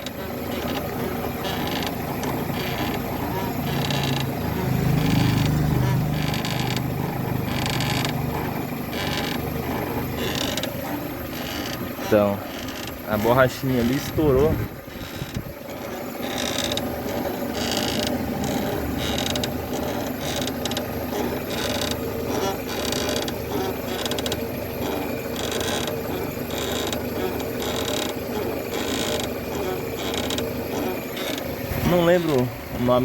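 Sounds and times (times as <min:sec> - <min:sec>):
background hum: 0:00.0 - 0:33.0
suspension clicking and creaking: 0:00.0 - 0:33.0.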